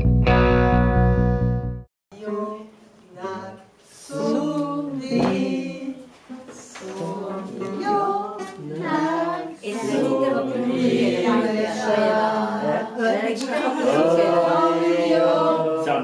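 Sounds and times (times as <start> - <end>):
girls singing together: 2.1 - 16.0.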